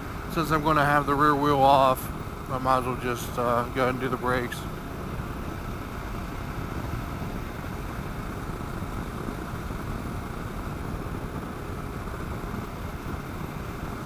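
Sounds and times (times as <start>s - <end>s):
motorcycle riding with wind noise: 0.0s - 14.0s.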